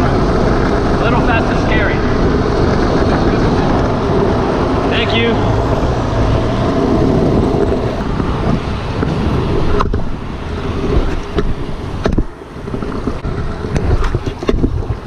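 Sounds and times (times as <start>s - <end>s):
rushing air: 0.0s - 15.0s
scooter wheels rumbling: 0.0s - 15.0s
wheels clacking over paving joints: 0.0s - 15.0s.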